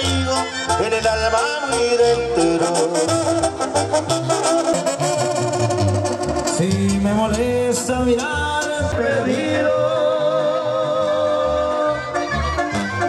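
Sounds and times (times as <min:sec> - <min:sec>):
latin band music with singing: 0:00.0 - 0:13.0.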